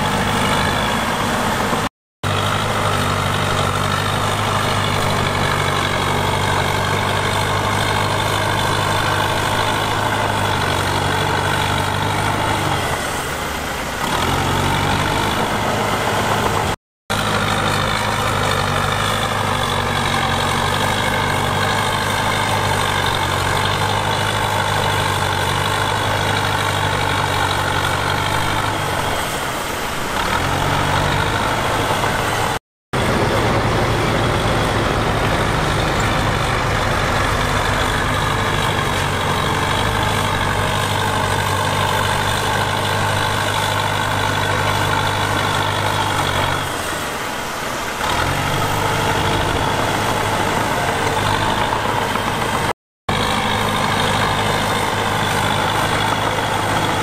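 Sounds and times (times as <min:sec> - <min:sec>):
heavy diesel machine engine: 0:00.0 - 0:57.0.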